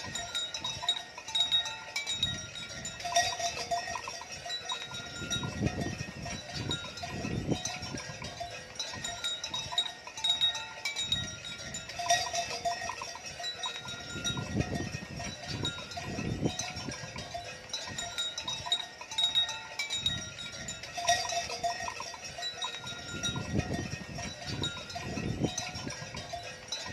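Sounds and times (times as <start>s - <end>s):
cattle bells clanking: 0.0s - 26.9s.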